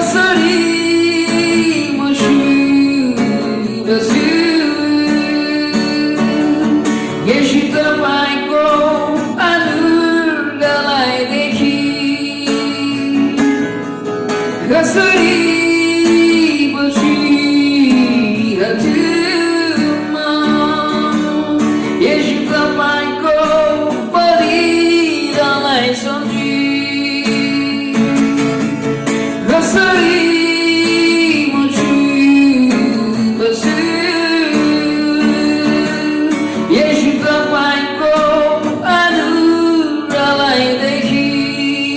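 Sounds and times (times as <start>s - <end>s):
person singing worship song: 0.0s - 13.8s, 14.5s - 28.6s, 29.2s - 41.9s
guitar accompaniment: 0.0s - 41.9s.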